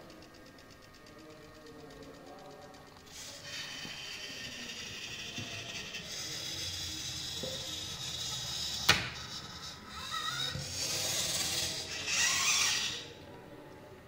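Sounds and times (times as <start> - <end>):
robot arm servo motors whirring: 1.8 - 13.2.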